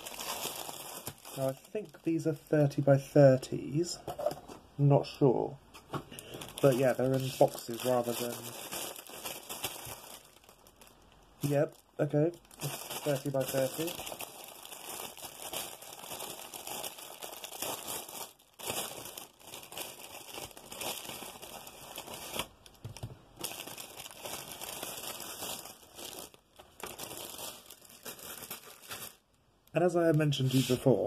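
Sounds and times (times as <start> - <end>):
plastic bag crinkling: 0.0 - 2.2, 6.1 - 30.7
small packets rustling: 0.0 - 2.2, 6.1 - 31.0.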